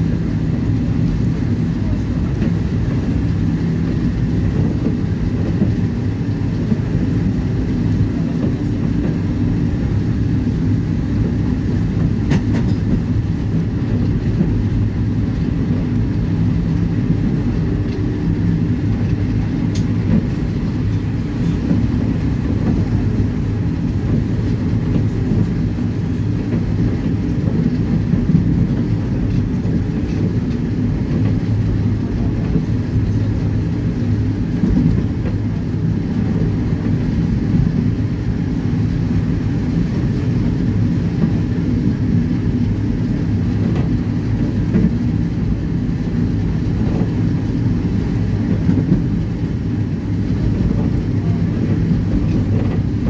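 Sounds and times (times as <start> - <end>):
tram running rumble: 0.0 - 53.0.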